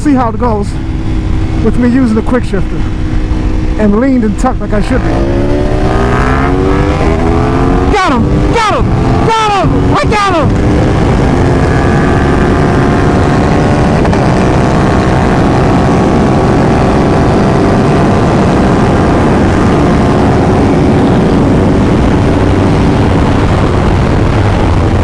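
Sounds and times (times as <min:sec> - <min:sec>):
wind rush on microphone: 0:00.0 - 0:25.0
motorcycle engine revving high: 0:00.7 - 0:25.0.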